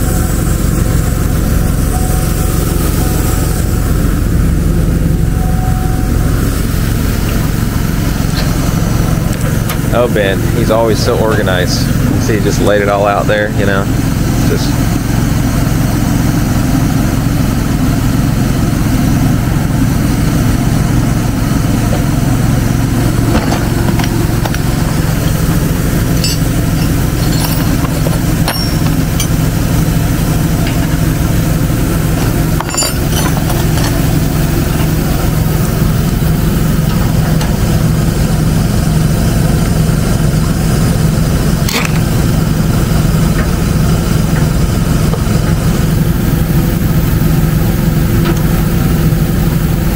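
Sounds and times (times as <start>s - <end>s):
engine idling: 0.0s - 49.9s.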